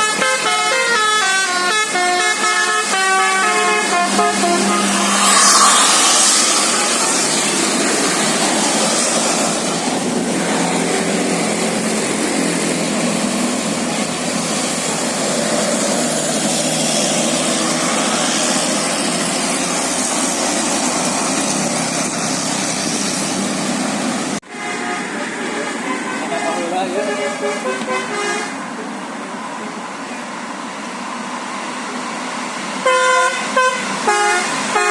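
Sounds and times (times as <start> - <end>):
bus driving by: 0.0 - 34.9.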